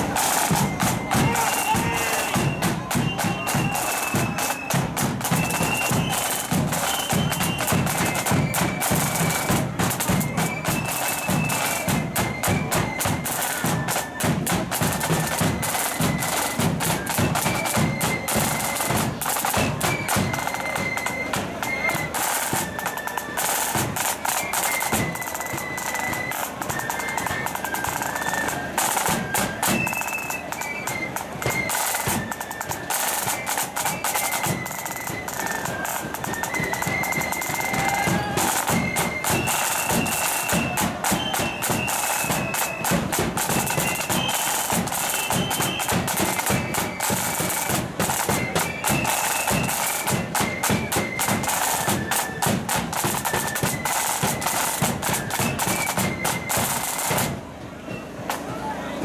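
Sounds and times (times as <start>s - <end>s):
side drum rolls: 0.0s - 58.6s
high flute melody: 0.0s - 59.0s.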